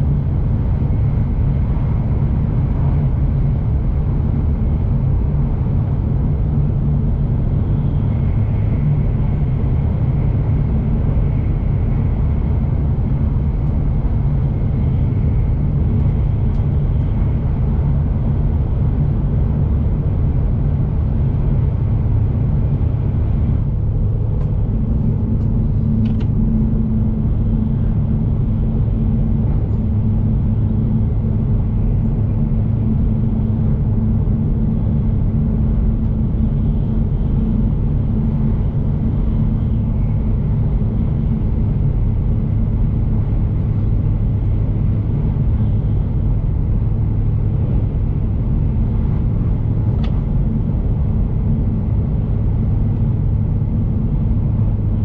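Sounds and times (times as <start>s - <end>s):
steady low hum: 0.0s - 55.0s
train cabin rumble: 0.0s - 55.0s.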